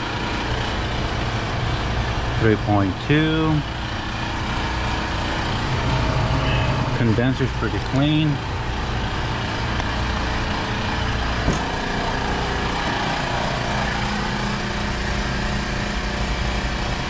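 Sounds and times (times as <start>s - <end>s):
refrigeration fan and compressor humming: 0.0s - 17.0s.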